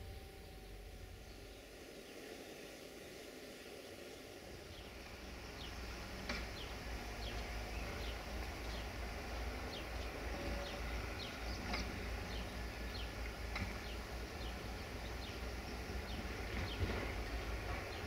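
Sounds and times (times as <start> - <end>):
diesel railcar rumble: 0.0 - 18.0.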